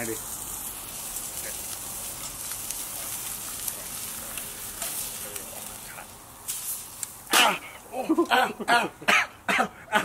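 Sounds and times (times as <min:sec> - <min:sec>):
steak sizzling on grill: 0:00.0 - 0:08.3.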